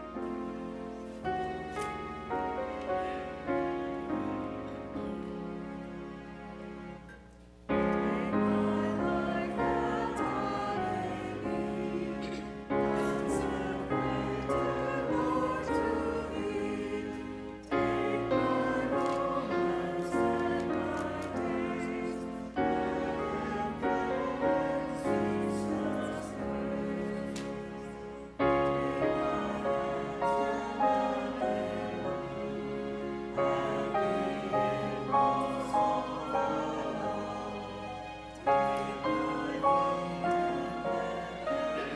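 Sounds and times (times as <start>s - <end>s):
congregation singing a hymn: 0.0s - 6.4s, 7.7s - 41.9s.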